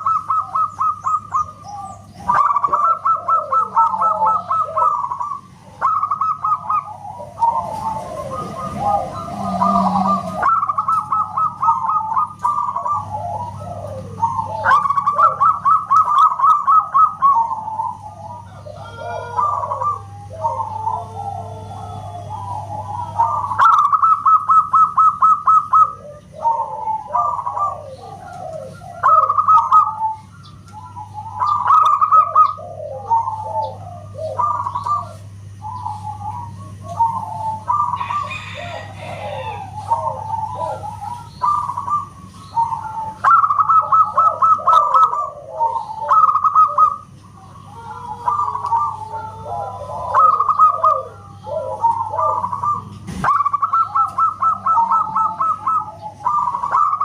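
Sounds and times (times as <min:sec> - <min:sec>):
dove cooing song: 0:00.0 - 0:57.0
steady low hum: 0:00.0 - 0:57.0.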